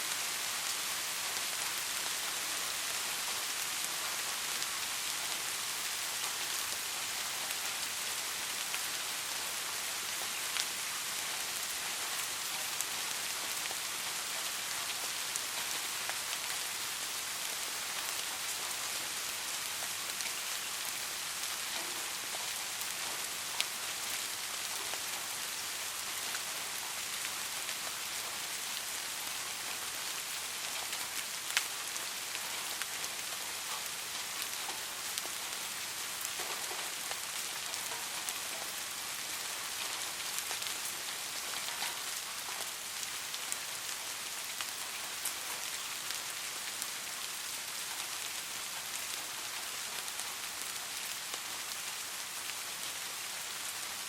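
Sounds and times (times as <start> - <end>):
soft rain hiss: 0.0 - 54.0.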